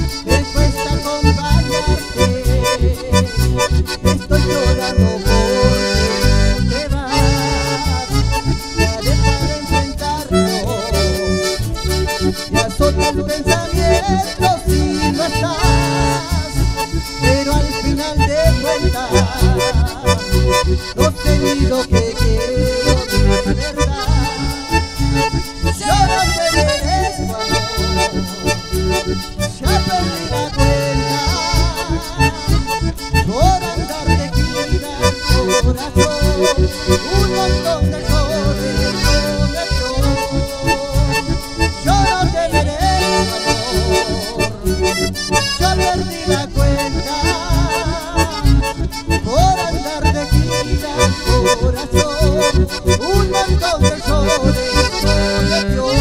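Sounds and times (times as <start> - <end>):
accordion and bandoneon: 0.0 - 56.0
bass: 0.0 - 56.0
strummed guitars: 0.0 - 56.0.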